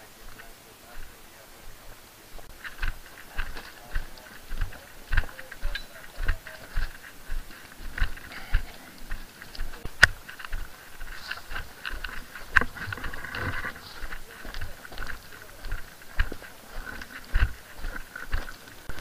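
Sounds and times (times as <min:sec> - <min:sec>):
footsteps on rocky dirt trail: 0:00.0 - 0:19.0.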